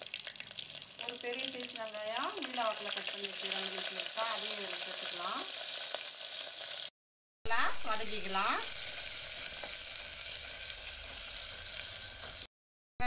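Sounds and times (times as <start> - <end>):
onions sizzling in hot oil: 0.0 - 6.9, 7.5 - 12.5.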